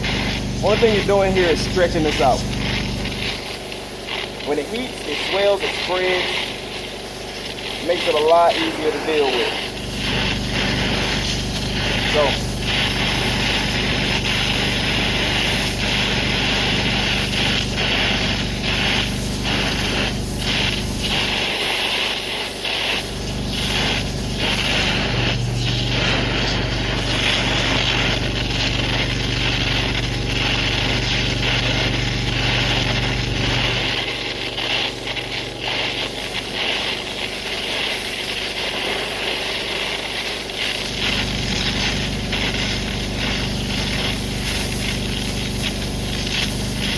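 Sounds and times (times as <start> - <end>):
pressure washer humming: 0.0 - 46.9
torch flame hissing: 0.0 - 46.9.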